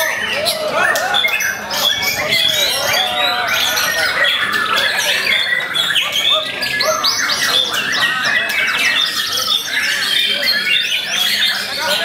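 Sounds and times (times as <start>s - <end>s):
birds singing whistled phrases: 0.0s - 12.0s.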